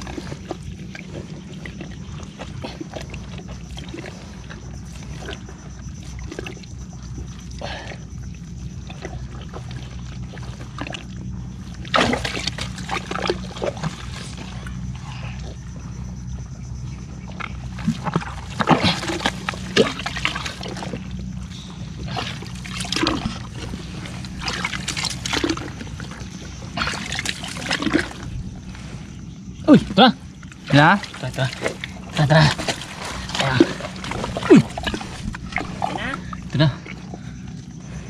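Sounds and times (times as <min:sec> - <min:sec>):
steady low hum: 0:00.0 - 0:38.0
water splashing and sloshing: 0:00.0 - 0:38.0.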